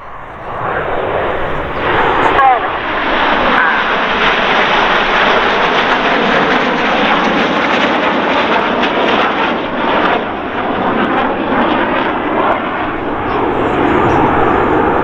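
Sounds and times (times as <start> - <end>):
jets flying past: 0.0 - 15.0.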